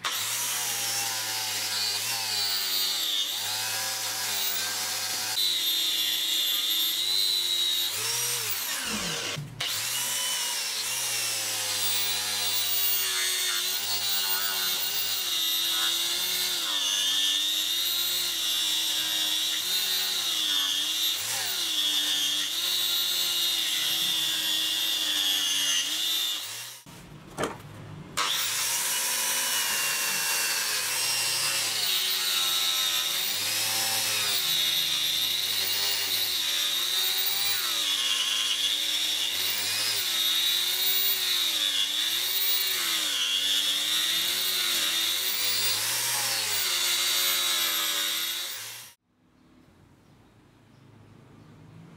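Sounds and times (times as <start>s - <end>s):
angle grinder polishing metal: 0.0s - 26.9s, 28.2s - 49.0s.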